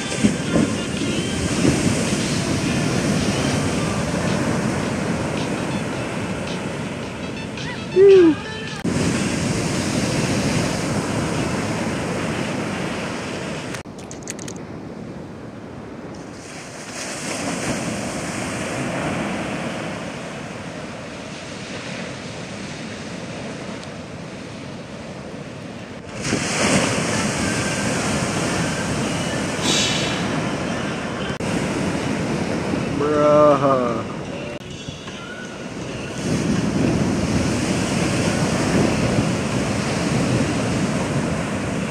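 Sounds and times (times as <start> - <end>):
waves breaking: 0.0 - 41.9.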